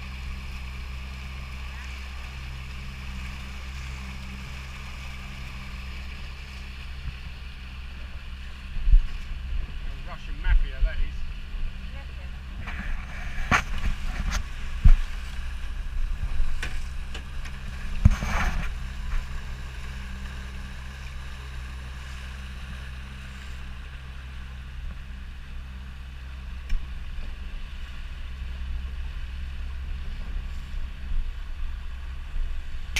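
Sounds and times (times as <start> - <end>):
boat motor droning: 0.0 - 32.9
wind and water rushing: 0.0 - 32.9.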